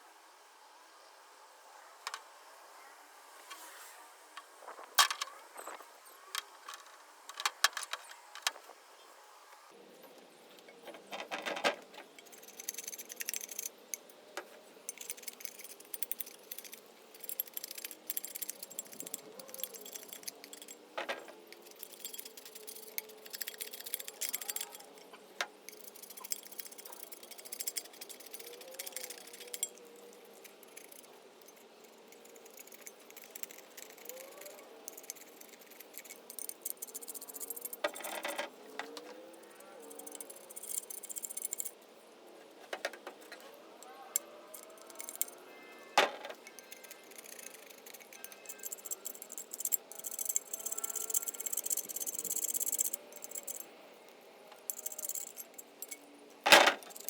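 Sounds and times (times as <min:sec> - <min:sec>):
small metal parts clinking: 0:05.0 - 0:08.6, 0:10.6 - 0:41.8, 0:42.5 - 0:53.7, 0:54.6 - 0:57.0.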